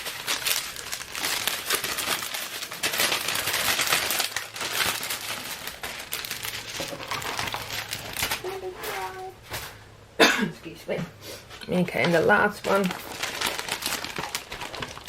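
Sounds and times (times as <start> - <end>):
plastic packaging crinkling: 0.0 - 9.3, 11.9 - 15.0.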